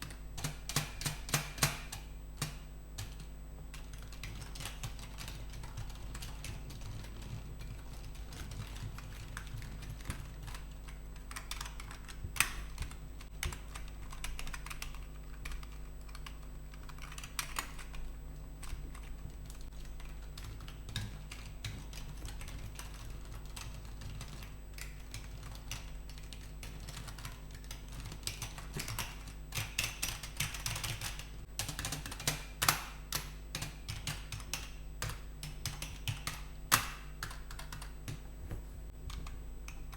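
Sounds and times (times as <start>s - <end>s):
keyboard keys clicking: 0.0s - 18.0s, 18.6s - 38.2s, 39.1s - 39.9s.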